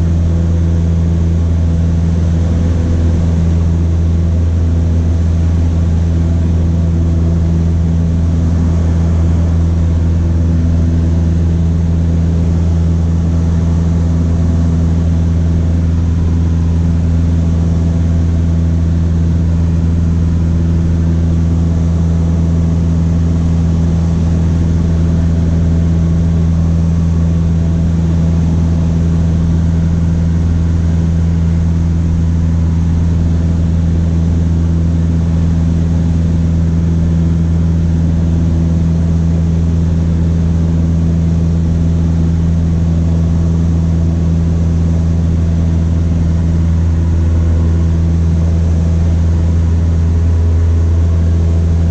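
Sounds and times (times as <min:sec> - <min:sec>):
airplane engine and propeller drone: 0:00.0 - 0:51.9.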